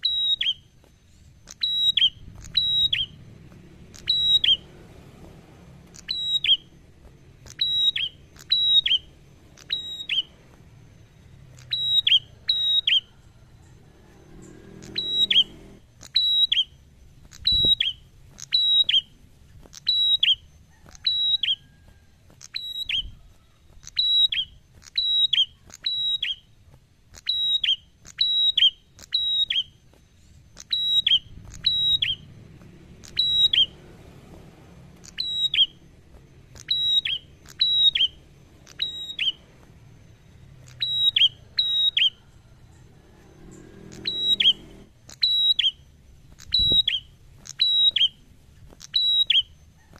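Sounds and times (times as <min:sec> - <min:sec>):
bird calling high whistled notes: 0:00.0 - 0:04.8, 0:05.7 - 0:26.5, 0:27.1 - 0:34.1, 0:34.8 - 0:48.2, 0:48.8 - 0:49.9.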